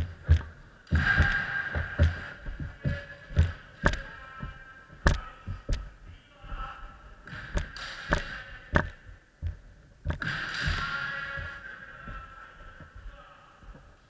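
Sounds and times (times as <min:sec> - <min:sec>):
feet stamping on wooden boards: 0:00.0 - 0:13.9.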